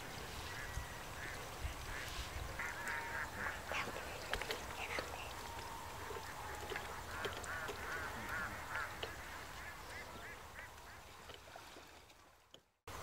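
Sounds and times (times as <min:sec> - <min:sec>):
birds calling: 0:00.0 - 0:11.5
steady low background noise: 0:00.0 - 0:13.0.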